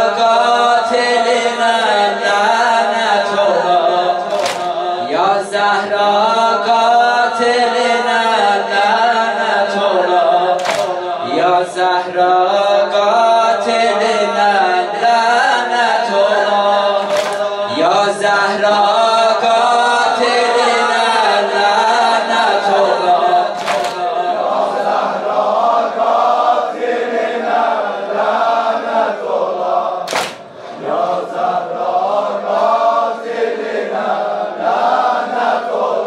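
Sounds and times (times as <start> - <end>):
group chanting a lament: 0.0 - 36.0.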